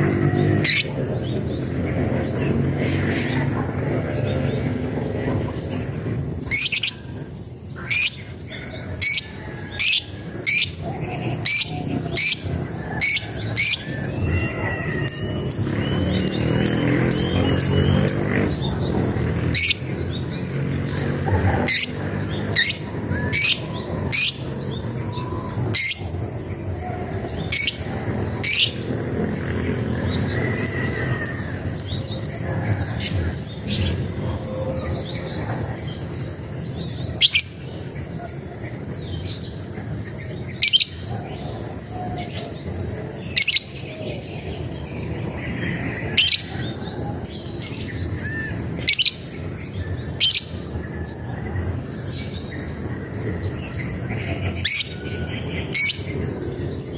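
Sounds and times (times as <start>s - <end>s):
high insect-like drone: 0.0s - 56.9s.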